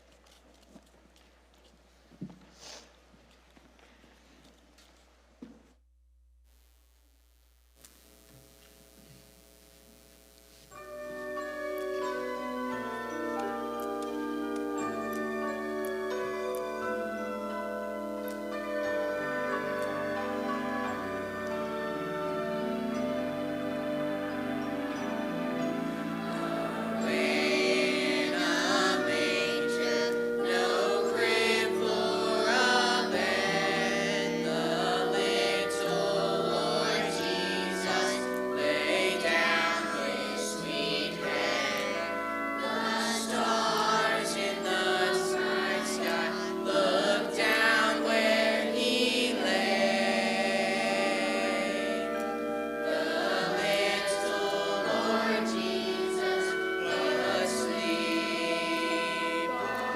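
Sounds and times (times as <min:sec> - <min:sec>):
instrumental accompaniment: 0:10.7 - 0:59.9
choir singing: 0:10.8 - 0:59.9.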